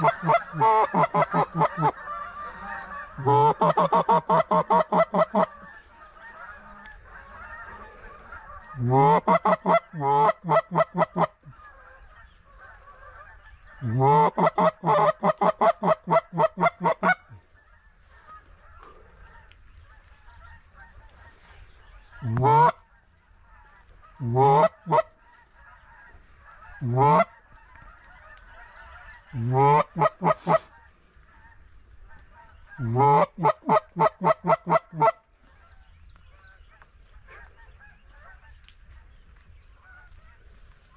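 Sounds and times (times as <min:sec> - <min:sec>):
goose honking: 0:00.0 - 0:39.2, 0:39.8 - 0:40.9.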